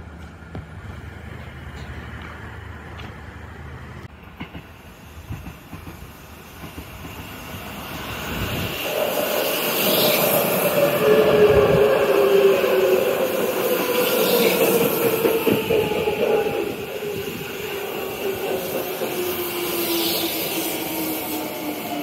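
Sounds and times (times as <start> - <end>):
electric train passing: 0.0 - 22.0
train whining tones: 4.2 - 22.0.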